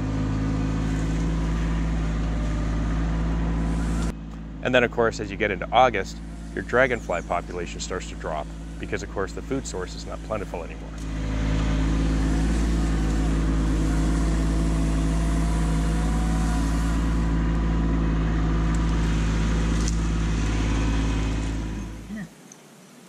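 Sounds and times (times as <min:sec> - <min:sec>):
tractor diesel engine running: 0:00.0 - 0:22.3.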